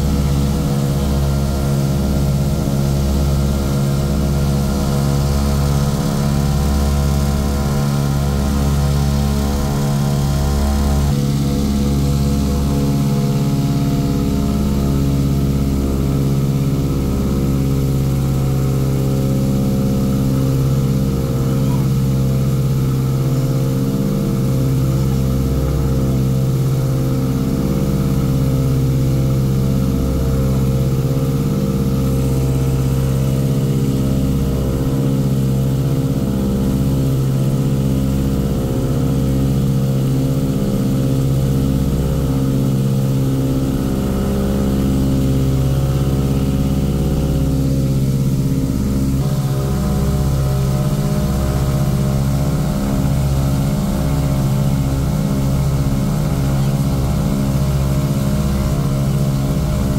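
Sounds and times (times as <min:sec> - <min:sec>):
propeller plane engines droning: 0:00.0 - 0:59.9.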